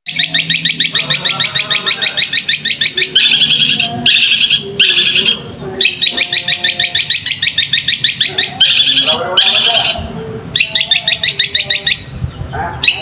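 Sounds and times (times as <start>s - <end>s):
bird chattering song: 0.0s - 13.0s.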